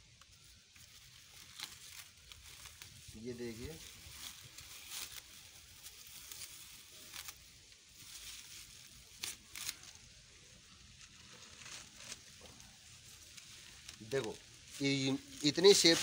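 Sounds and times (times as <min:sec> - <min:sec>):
cloth rustling and crinkling: 0:00.1 - 0:16.0.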